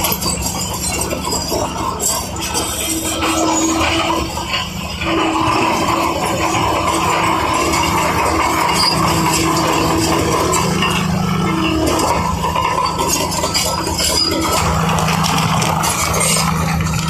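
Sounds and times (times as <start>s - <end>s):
heavy machinery engine hum: 0.0s - 17.0s.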